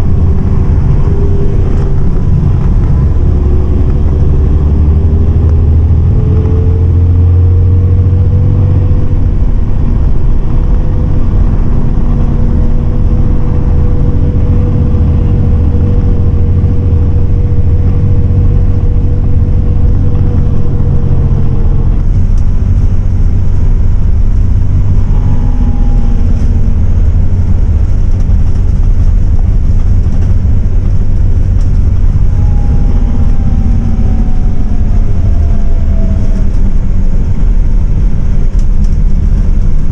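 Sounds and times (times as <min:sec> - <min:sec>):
short falling whine: 0:00.0 - 0:29.1, 0:30.7 - 0:38.6
bus engine and road rumble: 0:00.0 - 0:39.9
steady whine: 0:00.0 - 0:39.9.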